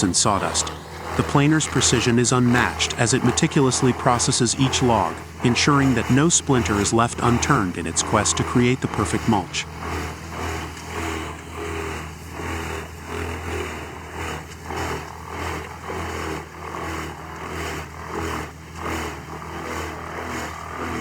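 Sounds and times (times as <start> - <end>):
wood chipper shredding trees: 0.0 - 21.0.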